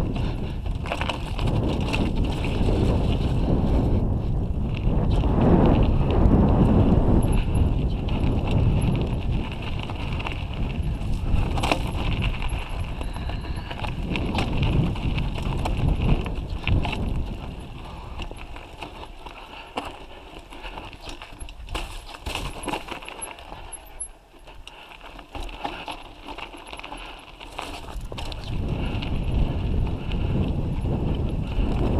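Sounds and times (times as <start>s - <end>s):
wind rumble on microphone: 0.0s - 24.1s, 25.0s - 31.9s
bike rattling over stones: 0.0s - 31.9s
bike tyres on gravel: 0.0s - 31.9s.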